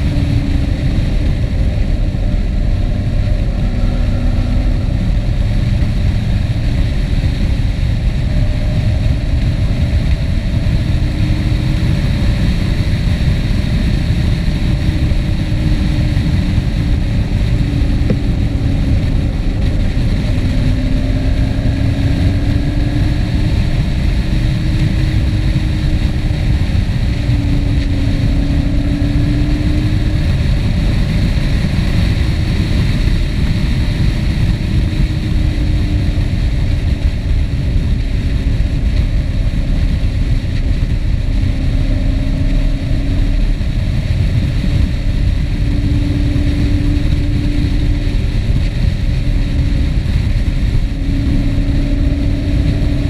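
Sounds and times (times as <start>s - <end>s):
humming vehicle tone: 0.0s - 53.0s
wind rumble on camera: 0.0s - 53.0s.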